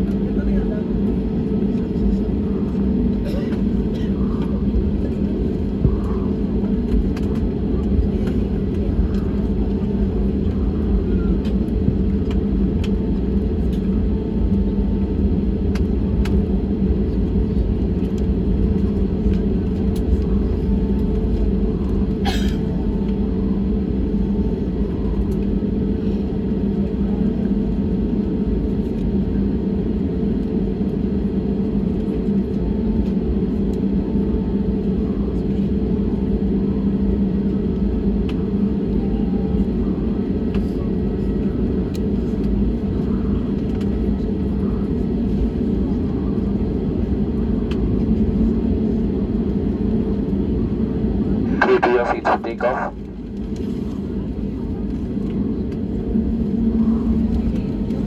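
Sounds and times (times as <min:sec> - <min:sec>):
airliner cabin rumble: 0:00.0 - 0:58.0
jet engines at taxi power: 0:00.0 - 0:58.0.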